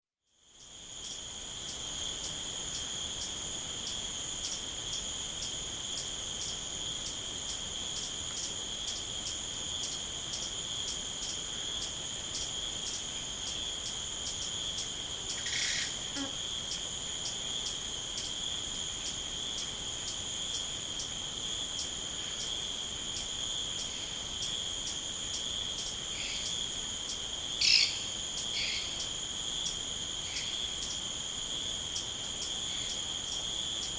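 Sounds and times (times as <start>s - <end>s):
crickets trilling: 0.4s - 33.9s
pulsing insect chirp: 0.4s - 33.9s.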